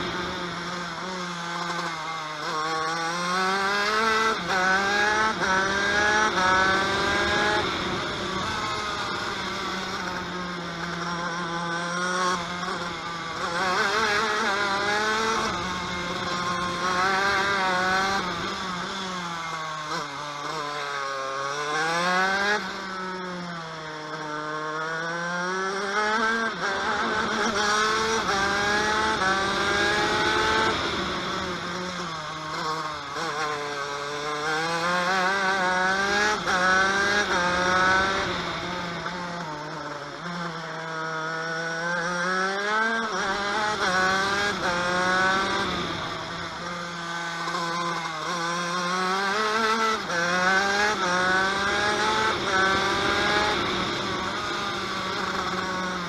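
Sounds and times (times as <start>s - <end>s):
two-stroke kart engine revving: 0.0s - 56.0s.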